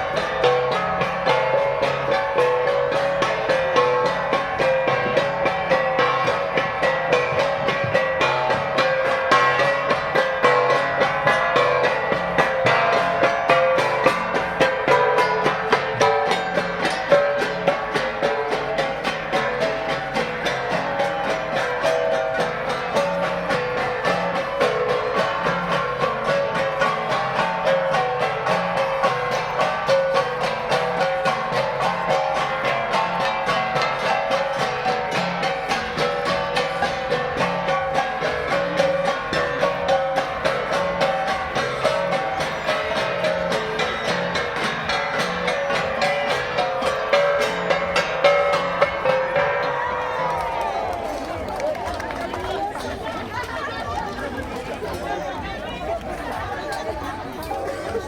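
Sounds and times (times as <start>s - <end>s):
drum: 0.0s - 58.0s
flat gongs beaten in rhythm: 0.0s - 58.0s.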